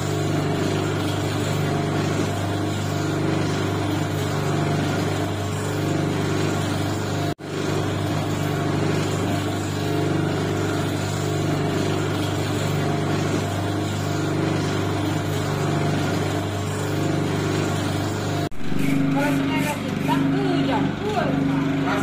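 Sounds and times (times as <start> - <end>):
electric motor humming: 0.0 - 22.0.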